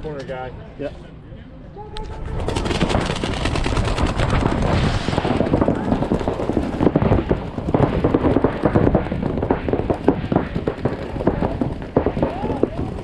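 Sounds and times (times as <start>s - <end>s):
paintballs hitting inflatable bunkers: 2.3s - 13.0s
paintball markers firing: 2.4s - 13.0s.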